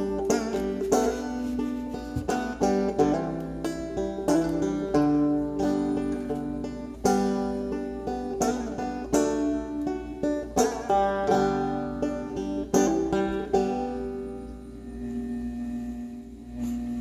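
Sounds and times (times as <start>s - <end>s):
plucked string music: 0.0s - 15.6s.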